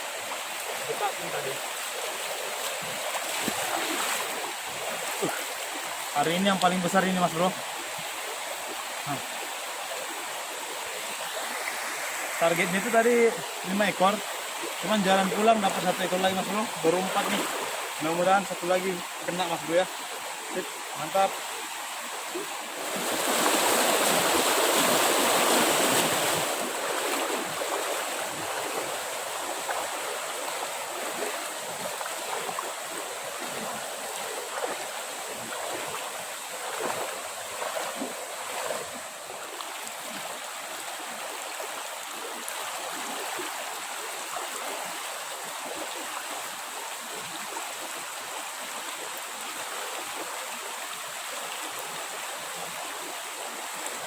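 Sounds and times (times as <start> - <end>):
forest stream rushing: 0.0 - 54.0.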